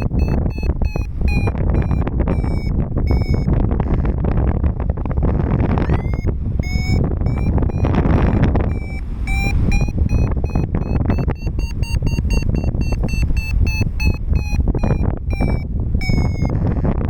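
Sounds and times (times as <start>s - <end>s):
variometer beeping: 0.0s - 17.0s
wind buffeting microphone: 0.0s - 17.0s.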